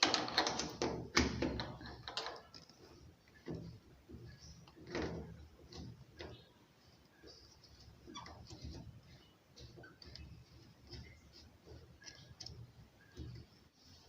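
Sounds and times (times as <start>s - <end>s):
plastic parts knocking and clicking: 0.0s - 6.4s, 8.2s - 13.6s.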